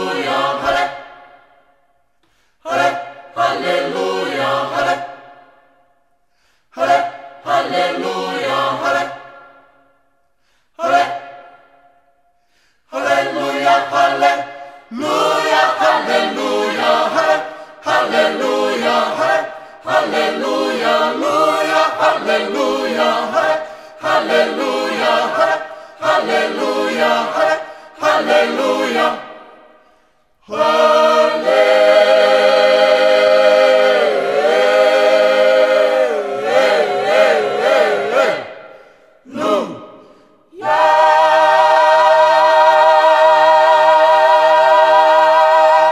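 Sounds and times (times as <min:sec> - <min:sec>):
choir singing a cappella: 0:00.0 - 0:45.9.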